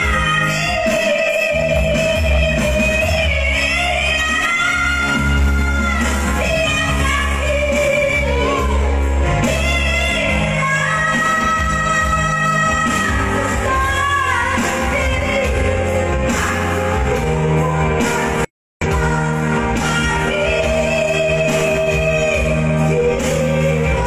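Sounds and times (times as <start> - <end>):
woman singing into a microphone: 0.0 - 24.0.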